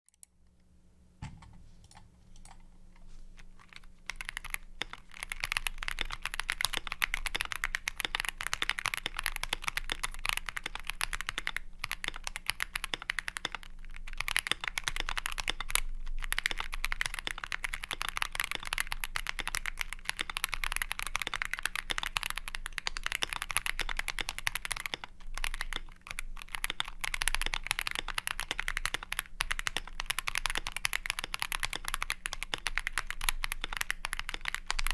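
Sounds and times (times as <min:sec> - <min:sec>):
typing on mechanical keyboard: 0:03.4 - 0:34.9.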